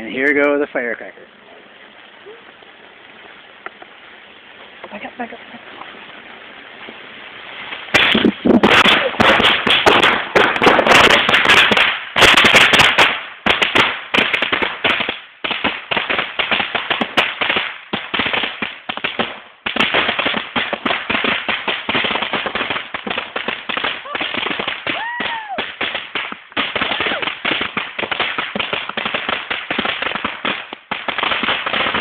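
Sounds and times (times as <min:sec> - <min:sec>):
firecrackers cracking: 0:00.0 - 0:32.0.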